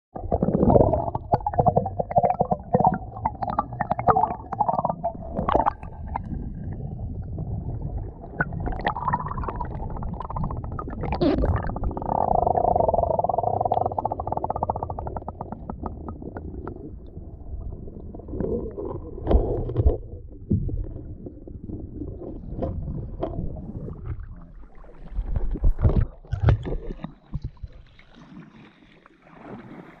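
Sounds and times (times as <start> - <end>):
underwater knocks and thumps: 0.2 - 28.2
muffled underwater rumble and sloshing: 0.2 - 30.0.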